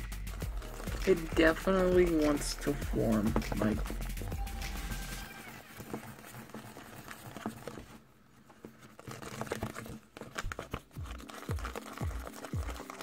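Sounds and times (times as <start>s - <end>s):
stick stirring sticky slime: 0.0s - 13.0s.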